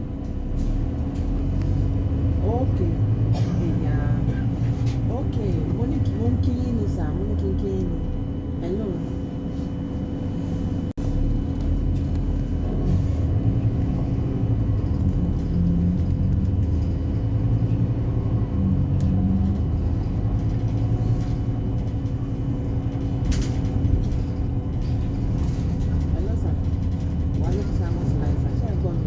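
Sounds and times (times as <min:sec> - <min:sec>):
bus diesel engine rumble: 0:00.0 - 0:29.0.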